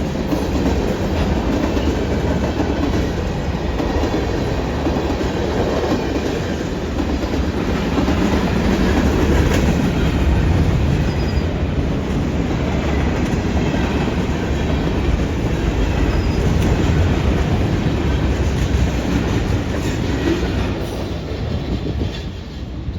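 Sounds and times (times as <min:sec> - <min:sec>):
freight train rumbling past: 0:00.0 - 0:22.9.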